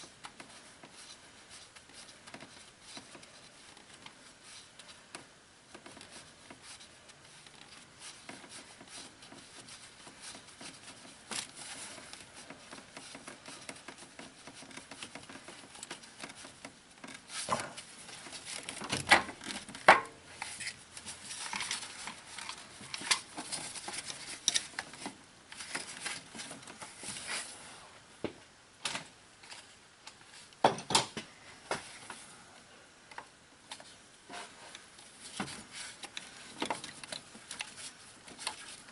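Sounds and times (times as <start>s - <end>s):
rustling: 0.0s - 28.0s, 31.4s - 38.9s.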